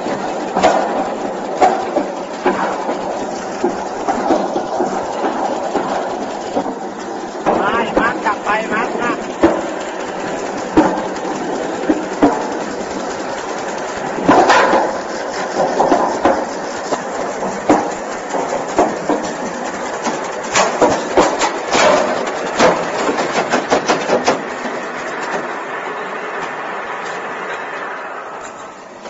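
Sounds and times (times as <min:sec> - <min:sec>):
machine running steadily: 0:00.0 - 0:29.0.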